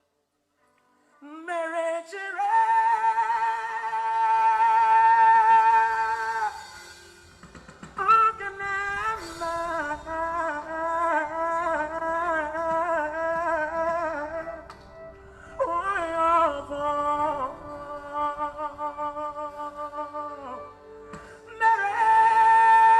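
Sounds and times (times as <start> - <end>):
person singing long wordless notes: 1.1 - 7.1, 8.0 - 22.9.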